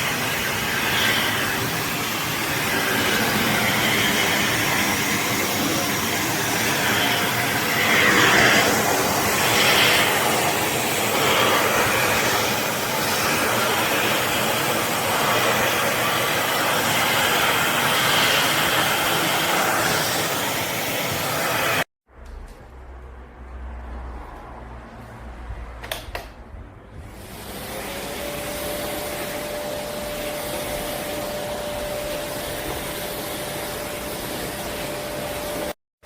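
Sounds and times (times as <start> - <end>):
vacuum cleaner running: 0.0 - 21.9, 27.0 - 35.8.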